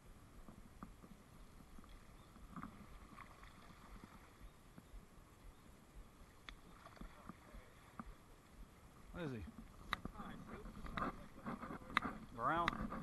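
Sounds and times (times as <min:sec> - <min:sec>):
small stream flowing: 0:00.0 - 0:13.0
light ticks and splashes: 0:00.3 - 0:13.0.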